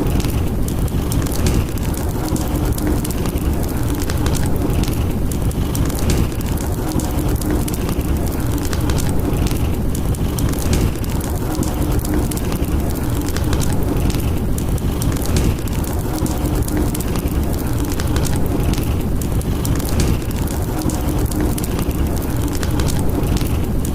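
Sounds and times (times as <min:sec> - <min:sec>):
fireplace crackling: 0:00.0 - 0:23.9.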